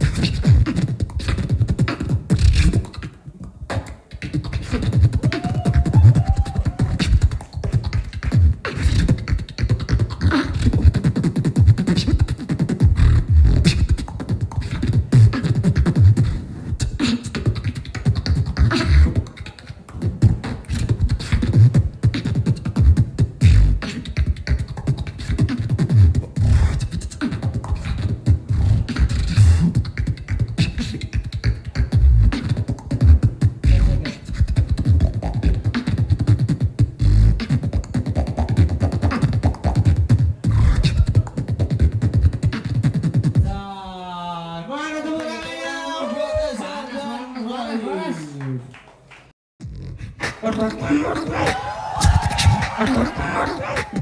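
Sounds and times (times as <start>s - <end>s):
beatboxing through microphone: 0.0s - 43.8s, 49.6s - 54.0s.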